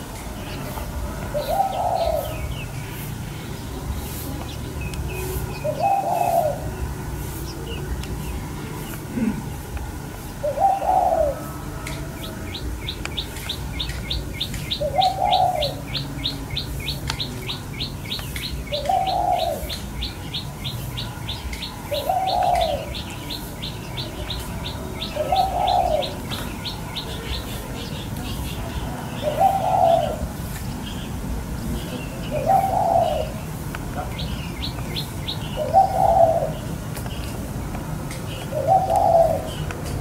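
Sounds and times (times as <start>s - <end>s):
dove cooing: 0.4s - 3.0s, 5.1s - 30.5s, 32.0s - 36.9s, 38.3s - 40.0s.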